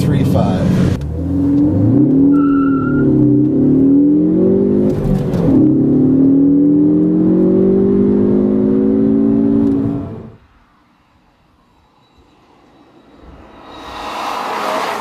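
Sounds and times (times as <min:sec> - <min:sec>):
car engine accelerating: 0:00.0 - 0:10.4, 0:13.2 - 0:15.0.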